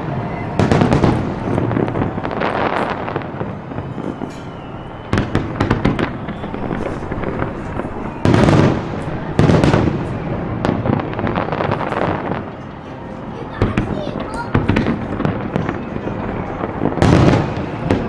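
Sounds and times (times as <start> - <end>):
loud firework bangs: 0.0 - 12.5, 13.7 - 18.0
fireworks crackling: 0.0 - 18.0.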